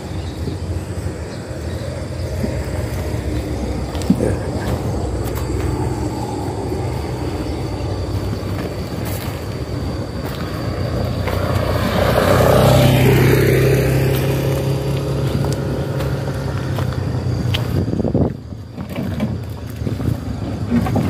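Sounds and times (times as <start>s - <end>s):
motorcycle passing by: 0.0s - 18.0s.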